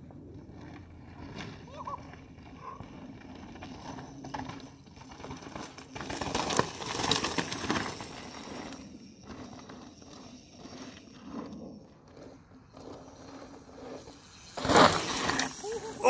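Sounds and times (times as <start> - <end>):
bike tyres crunching over gravel: 0.0 - 16.0
rear wheel skidding in dirt: 0.0 - 16.0.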